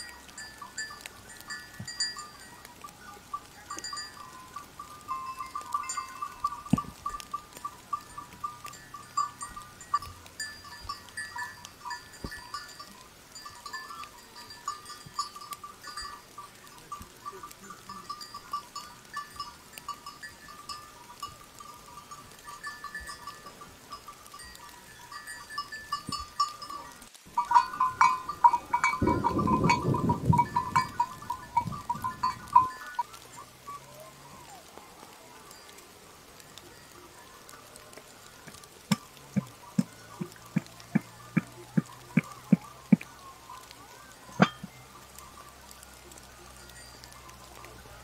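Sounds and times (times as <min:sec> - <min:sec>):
cow bell ringing: 0:00.0 - 0:34.6, 0:35.2 - 0:36.0, 0:36.6 - 0:45.7, 0:46.4 - 0:48.0.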